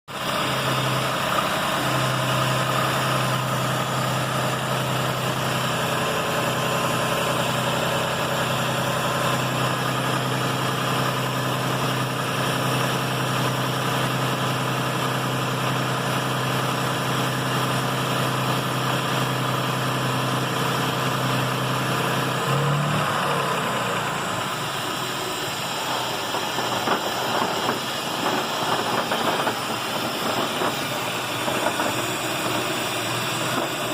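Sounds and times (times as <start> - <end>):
car engine idling: 0.1 - 33.9
engine rattle: 0.1 - 33.9.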